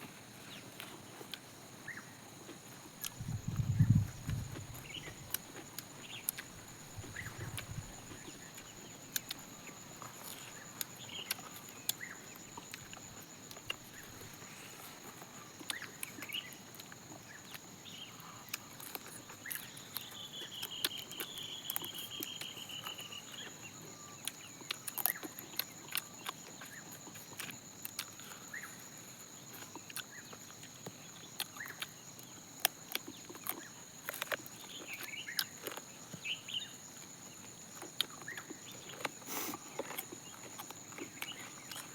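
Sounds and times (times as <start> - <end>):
chewing fried chicken: 0.5 - 41.9
high insect drone: 1.6 - 41.9.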